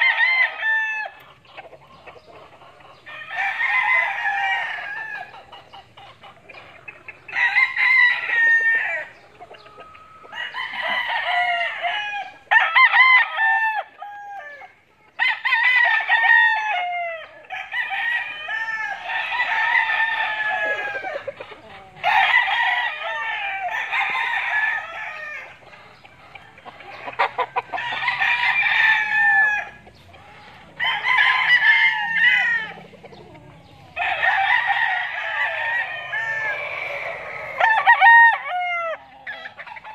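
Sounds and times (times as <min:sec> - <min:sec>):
roosters crowing: 0:00.0 - 0:39.9.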